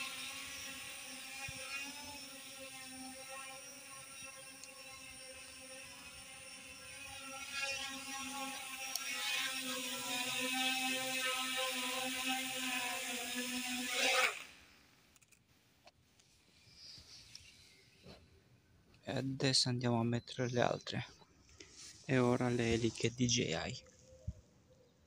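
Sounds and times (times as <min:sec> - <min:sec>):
quadcopter motors whining: 0:00.0 - 0:15.4, 0:16.2 - 0:18.7, 0:20.6 - 0:25.0.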